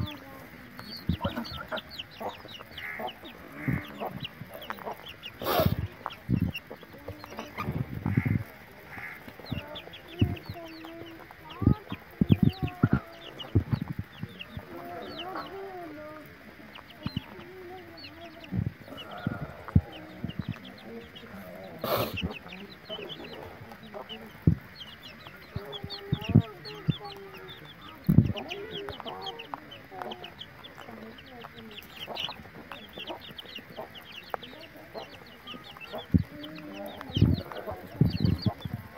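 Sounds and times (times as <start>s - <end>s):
chickens clucking: 0.0s - 38.9s
rapid high peeping: 0.0s - 38.9s.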